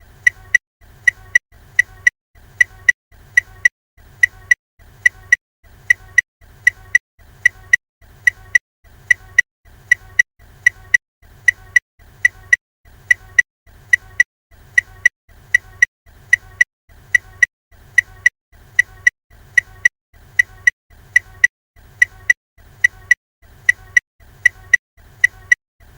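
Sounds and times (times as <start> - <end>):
car indicator ticking: 0.3 - 25.6.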